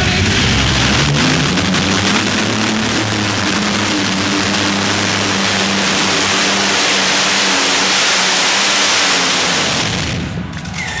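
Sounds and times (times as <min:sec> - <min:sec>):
pulling tractor engines roaring: 0:00.0 - 0:11.0.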